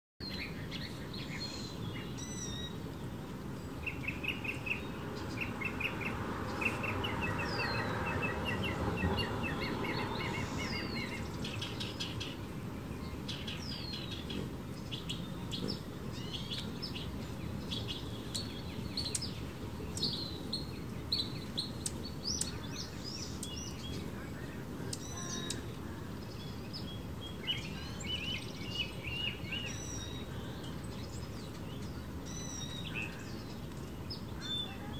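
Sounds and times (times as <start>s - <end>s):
songbirds chirping and singing: 0.2s - 34.9s
steady background hiss: 0.2s - 34.9s.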